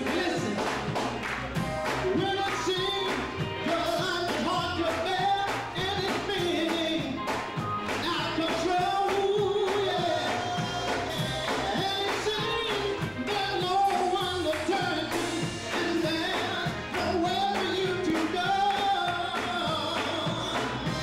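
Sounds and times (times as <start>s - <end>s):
male vocal group singing gospel: 0.0s - 1.1s, 1.9s - 21.0s
band with guitar and drums: 0.0s - 21.0s.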